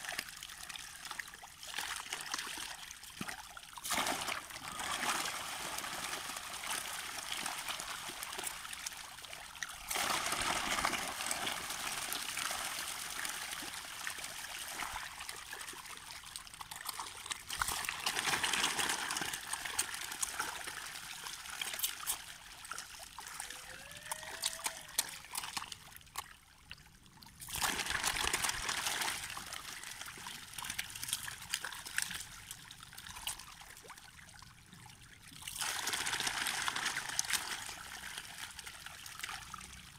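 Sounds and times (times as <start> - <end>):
fish splashing in water: 0.0 - 26.4, 27.4 - 34.1, 35.4 - 39.9.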